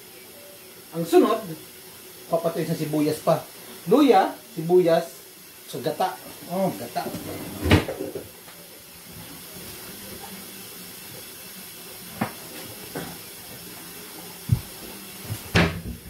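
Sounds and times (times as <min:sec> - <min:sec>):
low kitchen hiss: 0:00.0 - 0:16.0.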